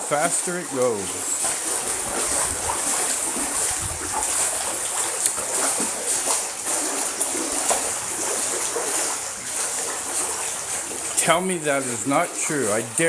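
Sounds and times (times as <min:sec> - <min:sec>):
dog paddling in pool water: 0:00.0 - 0:13.0.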